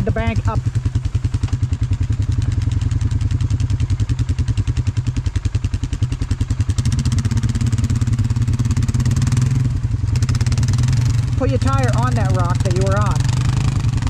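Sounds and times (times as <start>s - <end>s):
atv engine idling: 0.0s - 14.0s.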